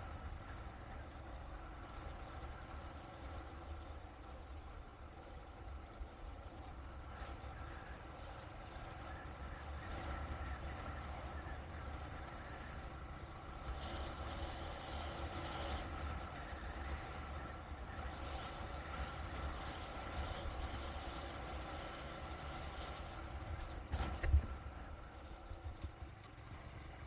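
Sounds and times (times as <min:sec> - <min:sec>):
vehicle low rumble: 0:00.0 - 0:27.0.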